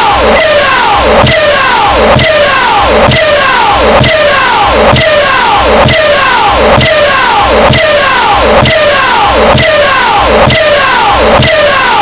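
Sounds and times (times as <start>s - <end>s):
man shouting distorted: 0.0s - 12.0s.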